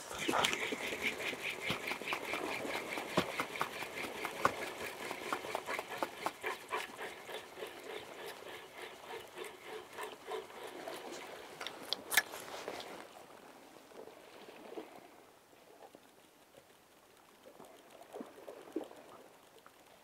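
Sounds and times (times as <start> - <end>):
fishing reel ticking and whirring: 0.0 - 12.4, 16.1 - 20.0.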